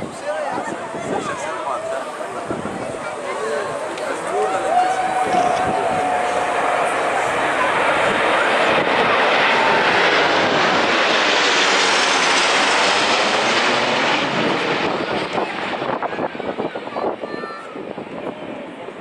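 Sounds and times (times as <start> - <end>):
military aircraft flying overhead: 0.0 - 19.0.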